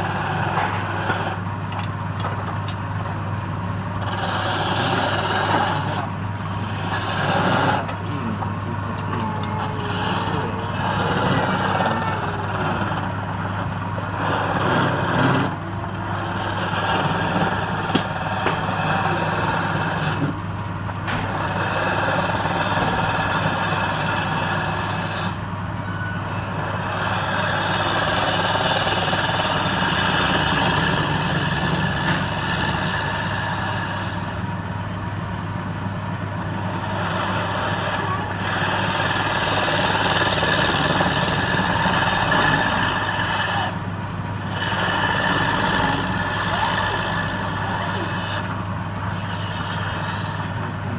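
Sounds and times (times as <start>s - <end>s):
tool cutting spinning wood: 0.0s - 20.5s, 21.1s - 25.6s, 26.5s - 50.9s
wood lathe motor hum: 0.0s - 25.8s, 26.4s - 50.9s.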